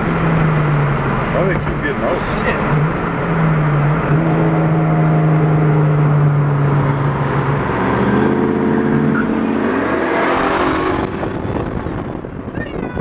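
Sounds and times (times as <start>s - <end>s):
car engine accelerating hard: 0.0s - 12.5s.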